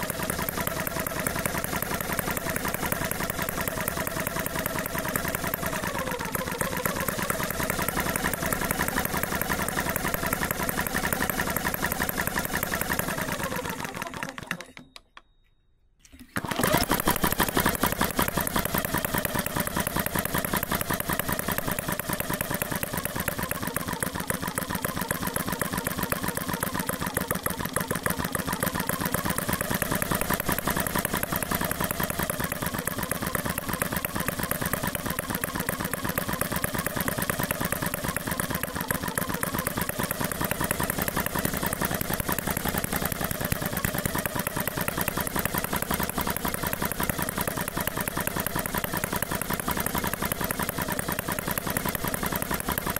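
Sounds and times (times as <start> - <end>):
model engine running: 0.0 - 15.0, 16.2 - 52.9.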